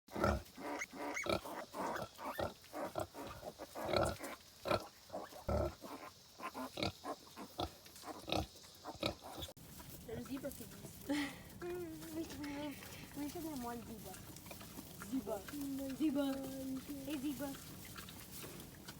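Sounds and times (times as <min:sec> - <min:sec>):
pigs grunting: 0:00.1 - 0:09.5, 0:10.2 - 0:18.9.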